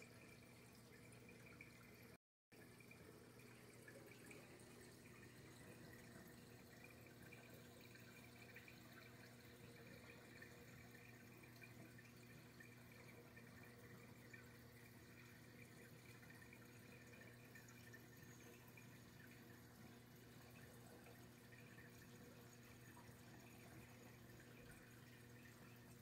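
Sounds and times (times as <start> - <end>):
aquarium low hum: 0.0 - 26.0
water trickling: 0.0 - 26.0.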